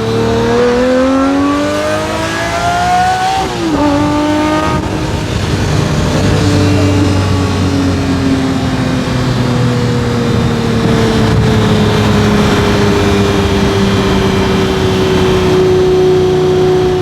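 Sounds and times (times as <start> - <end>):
car engine droning: 0.0 - 17.0
wind and road noise: 0.0 - 17.0.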